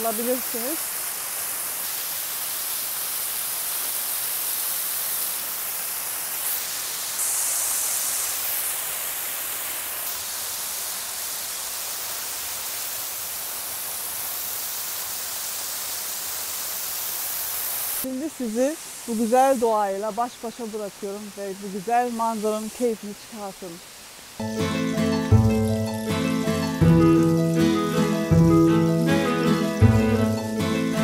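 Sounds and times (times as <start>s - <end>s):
waterfall splashing: 0.0s - 31.0s.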